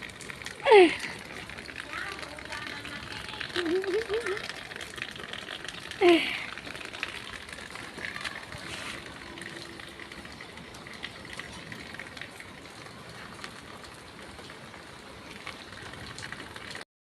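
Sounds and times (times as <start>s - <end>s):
raindrops ticking on surfaces: 0.0s - 16.9s
steady rain: 0.0s - 16.9s.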